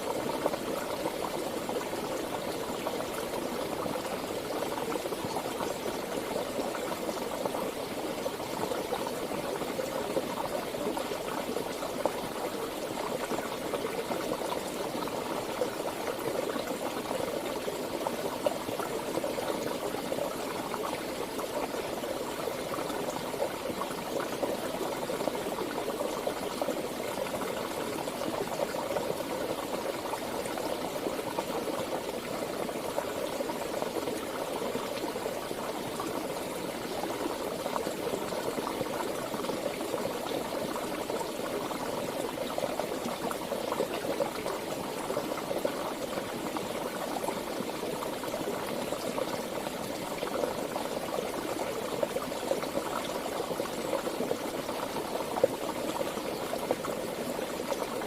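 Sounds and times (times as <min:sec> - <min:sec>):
stream flowing and gurgling: 0:00.0 - 0:58.0.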